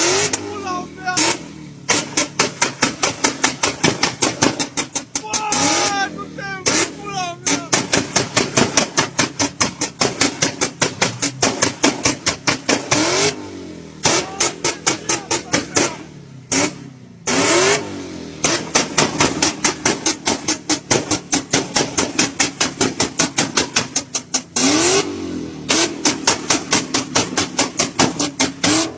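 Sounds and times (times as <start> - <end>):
car engine revving: 0.0 - 28.9
exhaust popping and banging: 0.0 - 28.9.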